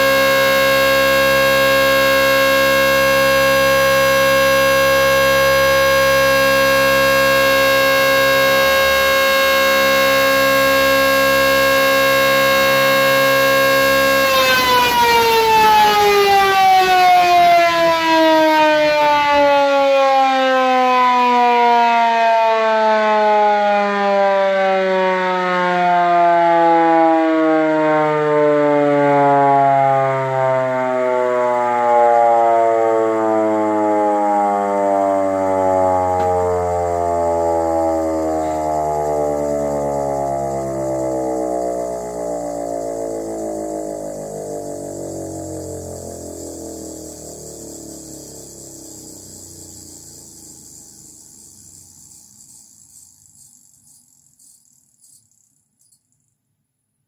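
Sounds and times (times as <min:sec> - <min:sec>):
electric motor siren winding down: 0:00.0 - 0:53.0.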